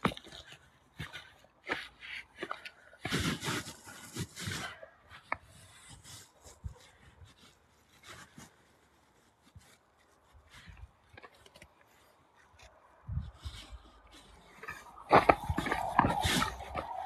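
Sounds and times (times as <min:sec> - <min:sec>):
footsteps crunching on snow: 0:00.0 - 0:17.0
rubbing noise: 0:01.0 - 0:17.0.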